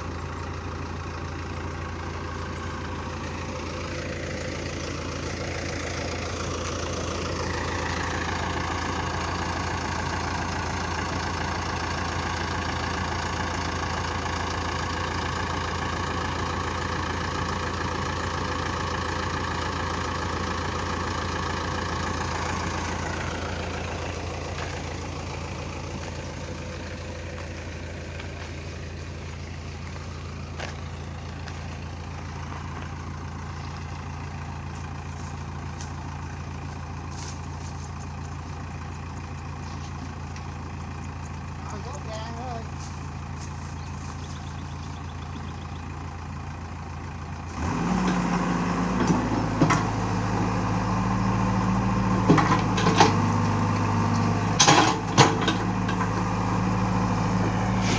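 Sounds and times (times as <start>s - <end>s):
heavy machine engine running: 0.0s - 57.9s.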